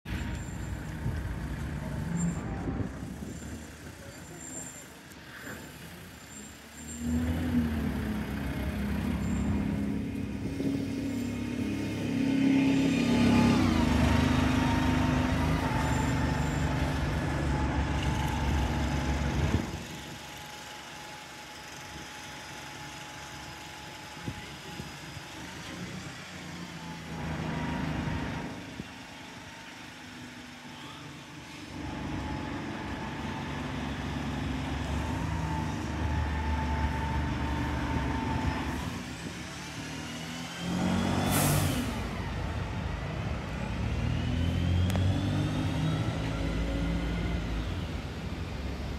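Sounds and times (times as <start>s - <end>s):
bus diesel engine accelerating: 0.0s - 48.9s.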